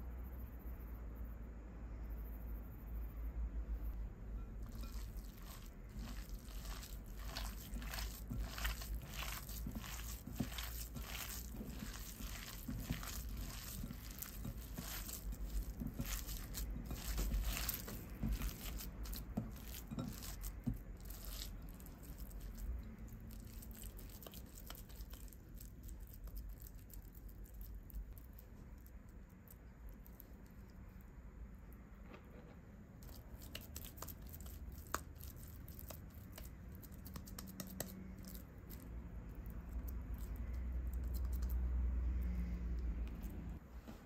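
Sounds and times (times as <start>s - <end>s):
hand squishing minced meat: 4.6s - 30.6s, 33.0s - 43.6s.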